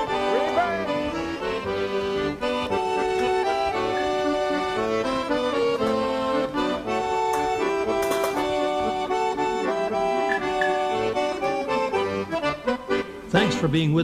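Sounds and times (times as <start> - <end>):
accordion playing held notes: 0.0 - 13.9.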